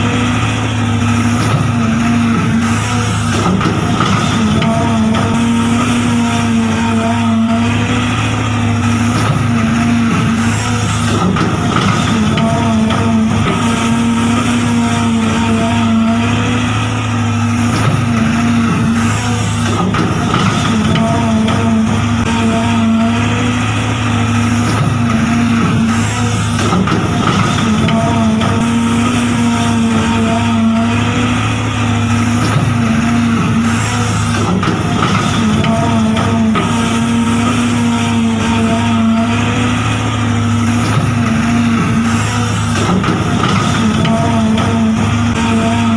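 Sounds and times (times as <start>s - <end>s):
model truck motor whine: 0.0s - 45.9s.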